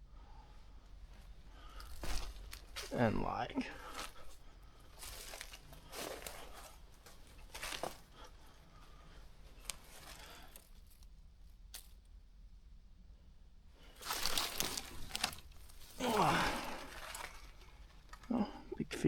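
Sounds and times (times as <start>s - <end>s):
faint rustling and crinkling: 0.0s - 12.2s, 13.7s - 19.0s.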